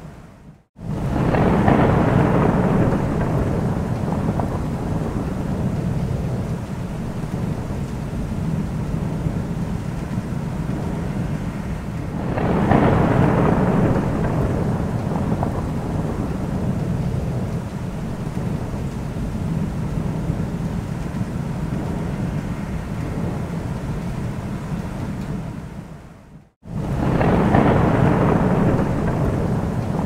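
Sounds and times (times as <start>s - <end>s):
steady rain: 0.0s - 30.0s
rolling thunder: 0.8s - 30.0s.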